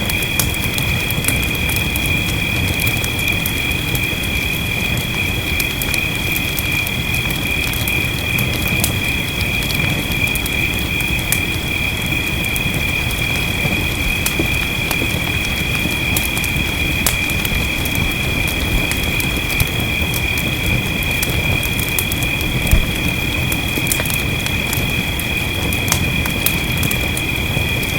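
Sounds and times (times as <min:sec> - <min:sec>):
rain hiss: 0:00.0 - 0:27.9
wood fire crackling: 0:00.0 - 0:27.9.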